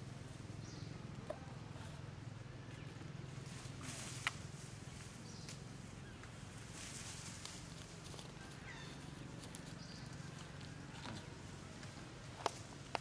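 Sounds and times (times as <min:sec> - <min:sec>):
rustling of dry leaves: 0:00.0 - 0:13.0.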